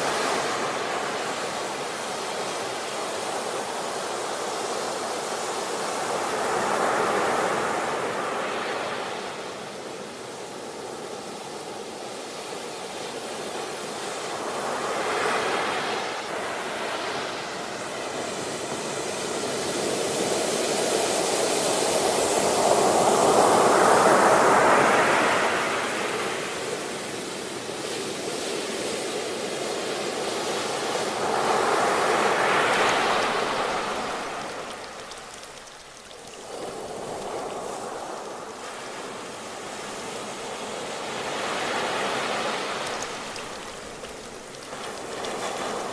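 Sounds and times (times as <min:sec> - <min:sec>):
ocean waves breaking ashore: 0:00.0 - 0:45.9.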